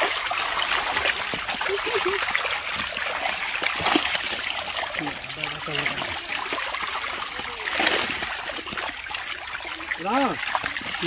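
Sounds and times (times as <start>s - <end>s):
fish thrashing and splashing water: 0.0s - 11.0s.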